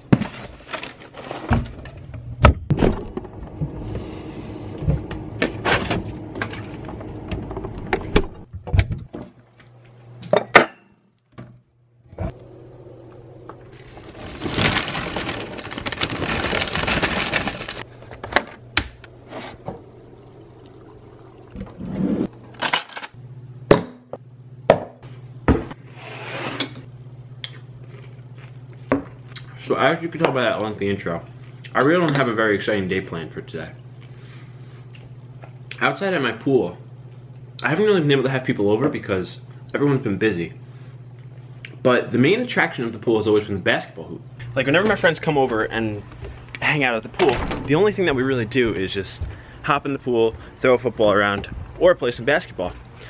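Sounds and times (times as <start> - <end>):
steady low hum: 0.1 - 10.3, 11.5 - 53.0.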